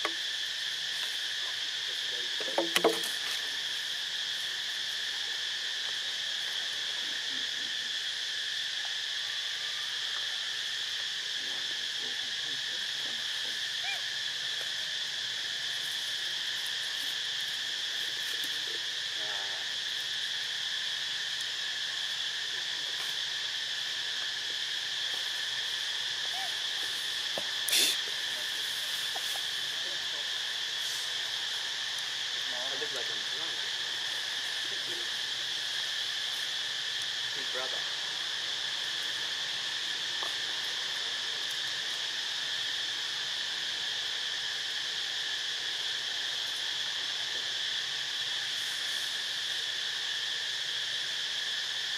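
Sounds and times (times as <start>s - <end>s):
insect chorus drone: 0.0s - 51.9s.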